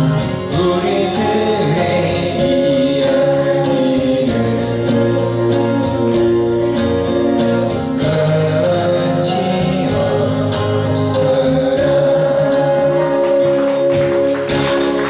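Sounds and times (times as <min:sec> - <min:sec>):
acoustic guitar: 0:00.0 - 0:15.0
person singing: 0:00.0 - 0:15.0.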